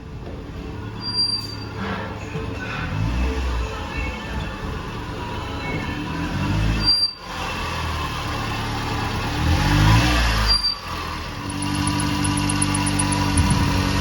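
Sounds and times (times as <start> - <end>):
small truck engine revving: 1.4 - 4.0, 4.8 - 14.0.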